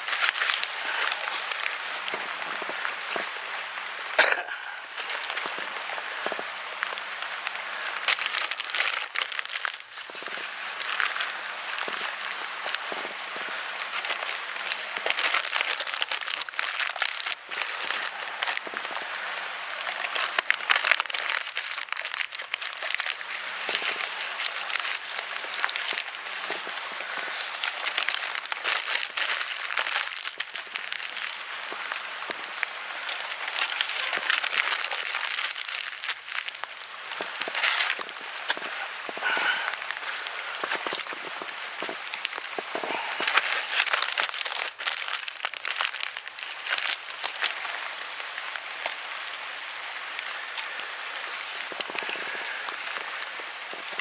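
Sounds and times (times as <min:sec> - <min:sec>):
bonfire crackling: 0:00.0 - 0:54.0.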